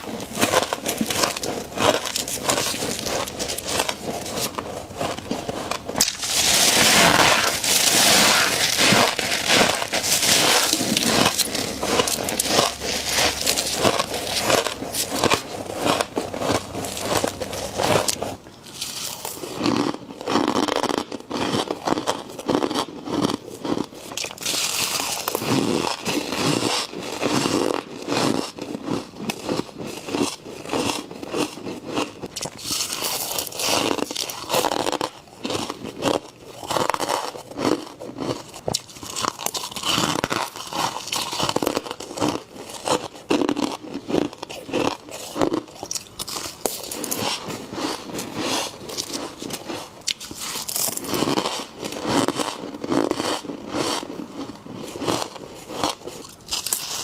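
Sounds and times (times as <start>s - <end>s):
frost crunching and crackling: 0.0s - 57.0s.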